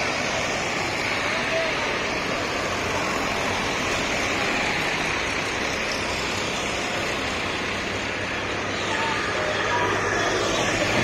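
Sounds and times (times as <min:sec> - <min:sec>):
tractor engines running: 0:00.0 - 0:11.0.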